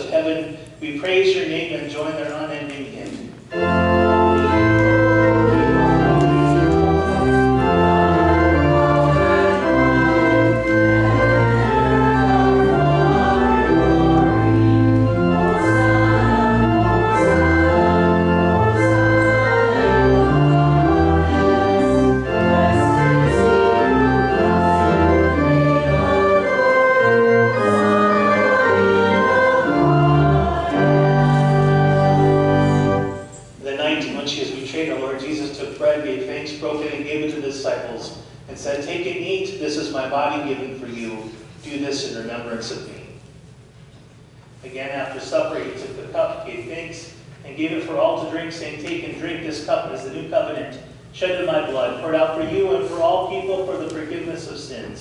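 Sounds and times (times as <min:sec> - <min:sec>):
church organ chords: 0:03.5 - 0:41.6, 0:45.1 - 0:55.0.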